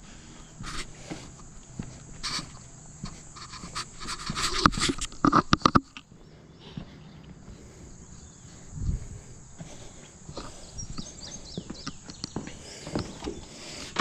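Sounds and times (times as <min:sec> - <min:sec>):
footsteps on dirt floor: 0:00.0 - 0:14.0.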